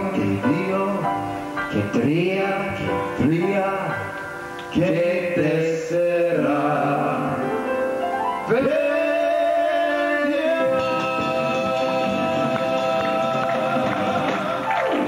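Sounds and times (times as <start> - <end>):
men singing into microphones: 0.0 - 7.6, 8.5 - 15.0.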